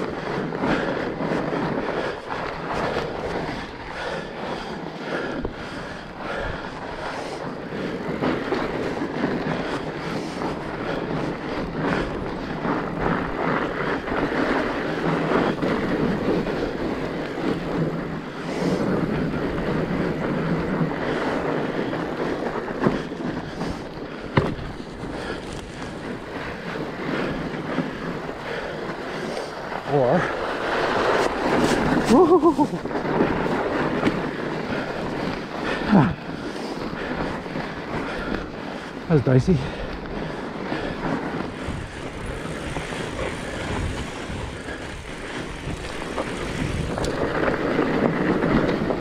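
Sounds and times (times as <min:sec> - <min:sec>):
bike rattling: 0:00.0 - 0:49.0
bike tyres rolling on trail: 0:00.0 - 0:49.0.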